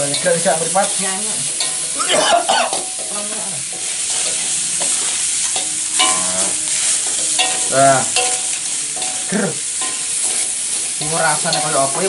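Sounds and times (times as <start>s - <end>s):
metal spatulas scraping a pan: 0.0s - 12.0s
rice sizzling in a wok: 0.0s - 12.0s.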